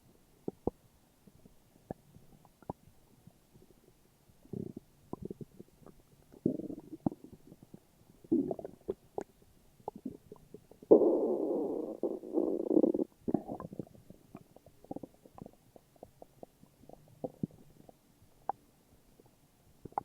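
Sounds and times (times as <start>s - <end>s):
stomach growling and gurgling: 0.4s - 20.0s.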